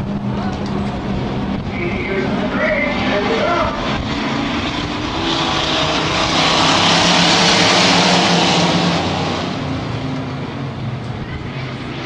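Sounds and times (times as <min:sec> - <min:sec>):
truck engines at full throttle: 0:00.0 - 0:12.0.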